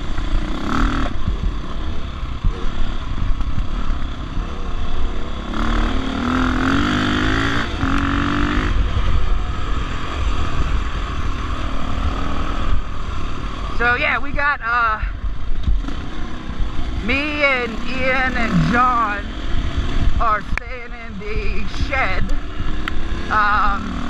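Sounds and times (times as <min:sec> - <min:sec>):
dirt bike engine revving: 0:00.0 - 0:14.2, 0:15.7 - 0:24.0.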